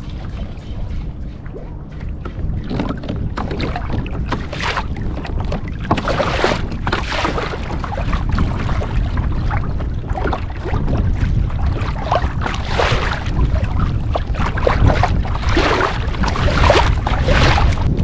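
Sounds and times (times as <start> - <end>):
water splashing against kayak: 0.0 - 18.0
wind rumble on microphone: 0.0 - 18.0.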